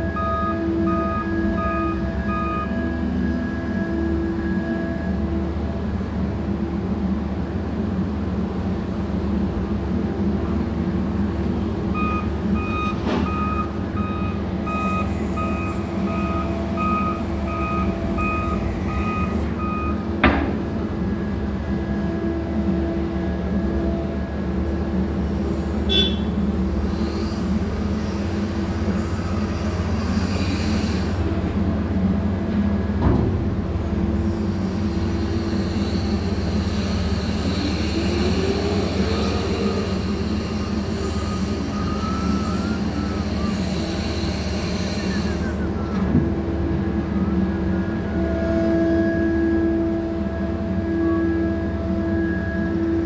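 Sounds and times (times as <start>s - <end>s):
heavy machinery hum: 0.0s - 53.0s.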